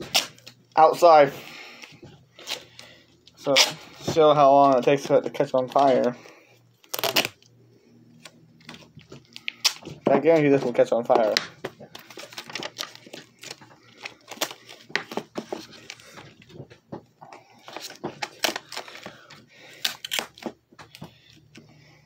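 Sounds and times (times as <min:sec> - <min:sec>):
tape crinkling and rustling: 0:00.0 - 0:07.5, 0:08.1 - 0:21.7.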